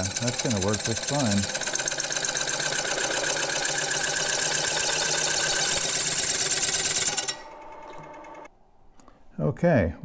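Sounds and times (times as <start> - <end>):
lathe cutting metal: 0.0 - 8.5
lathe motor humming: 0.0 - 8.5.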